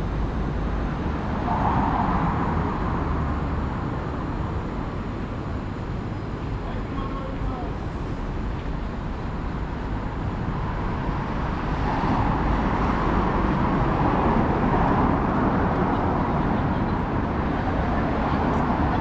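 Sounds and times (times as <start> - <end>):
road traffic on wet street: 0.0 - 19.0.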